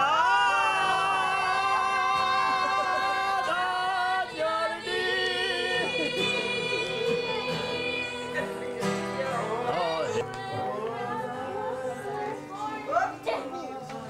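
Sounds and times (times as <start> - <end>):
group singing a carol: 0.0 - 14.0.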